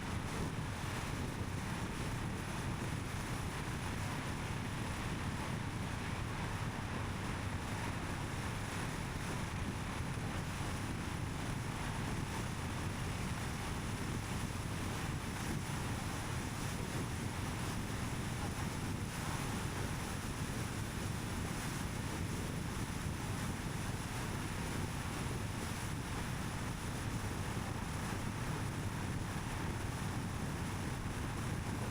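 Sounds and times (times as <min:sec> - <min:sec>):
wind noise: 0:00.0 - 0:31.9.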